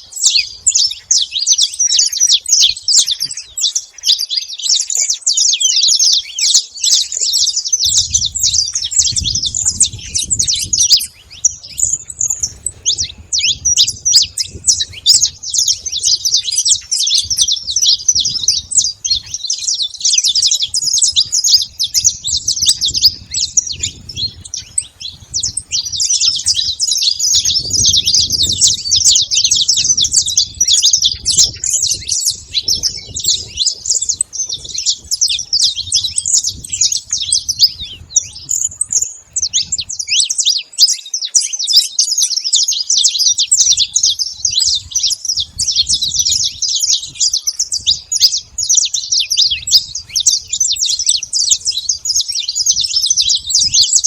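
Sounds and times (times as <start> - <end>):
flock of finches chirping: 0.0 - 54.0.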